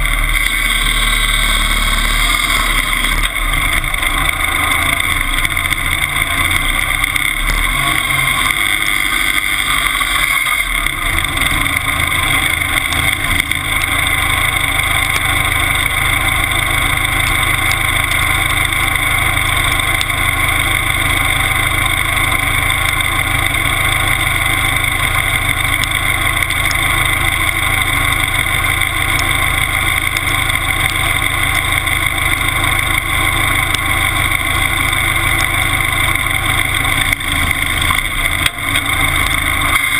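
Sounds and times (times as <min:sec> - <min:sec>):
skidder engine running loudly: 0:00.0 - 0:39.9.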